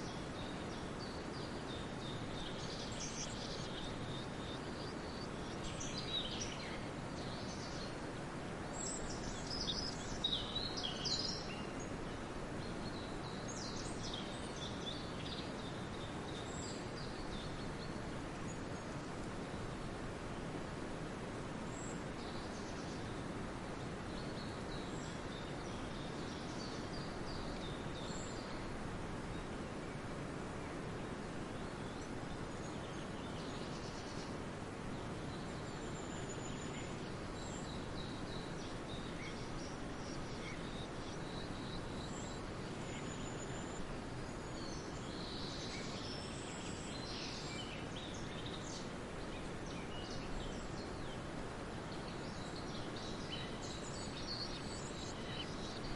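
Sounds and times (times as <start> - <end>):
background ambience noise: 0.0 - 55.9.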